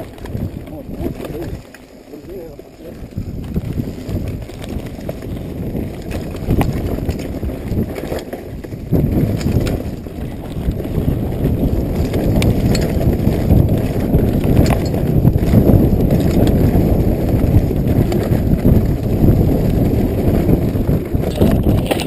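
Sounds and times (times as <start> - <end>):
bike knocks and rattles: 0.0 - 1.9, 3.1 - 22.0
bike tyres rumbling on dirt: 0.0 - 22.0.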